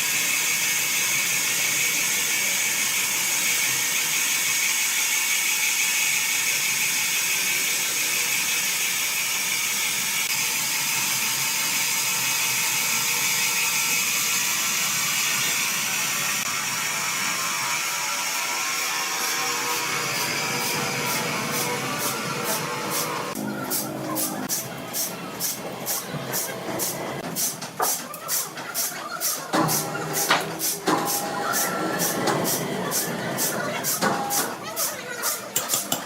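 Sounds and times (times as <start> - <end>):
woodworking machine whirring: 0.1 - 35.6.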